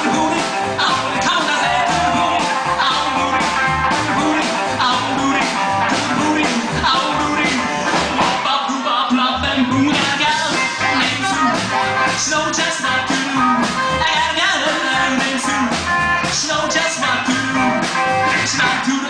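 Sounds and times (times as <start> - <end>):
electric guitar: 0.0 - 19.0
person singing: 0.0 - 19.0
rock band playing: 0.0 - 19.0.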